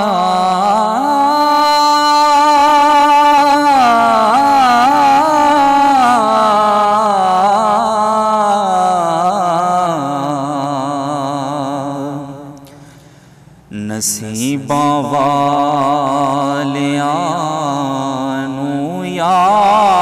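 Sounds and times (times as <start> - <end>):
man singing wordless melismatic notes: 0.0 - 12.9, 13.6 - 20.0.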